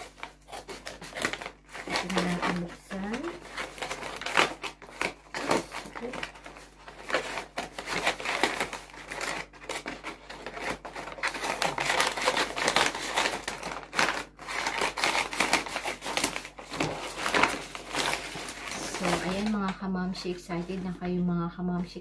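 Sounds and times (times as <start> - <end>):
scissors snipping paper: 0.0 - 19.6
paper bag rustling: 0.0 - 21.2.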